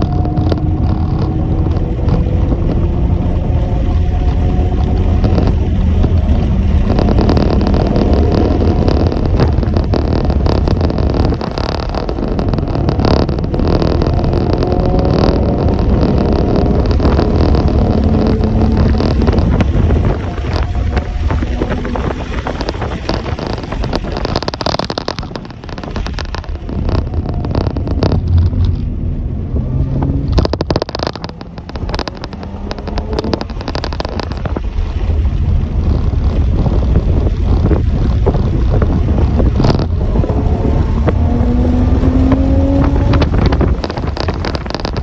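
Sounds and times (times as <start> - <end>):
vehicle engine running: 0.0 - 45.0
wind buffeting microphone: 0.0 - 45.0.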